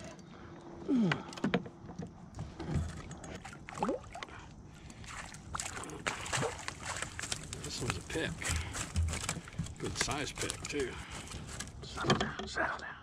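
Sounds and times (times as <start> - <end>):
water splashing and sloshing: 0.0 - 0.4, 1.4 - 12.1.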